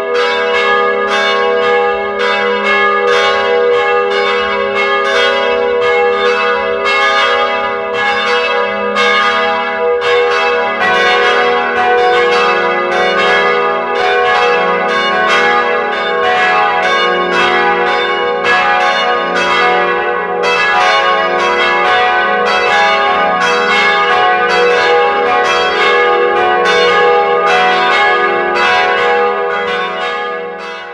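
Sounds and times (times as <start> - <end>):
church bells pealing: 0.0 - 30.9.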